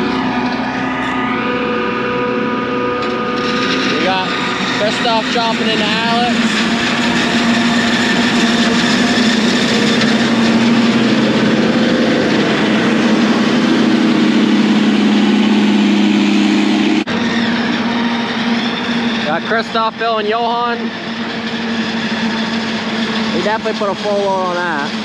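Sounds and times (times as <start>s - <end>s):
truck engine running: 0.0s - 25.0s
forage harvester chopping corn: 2.9s - 25.0s.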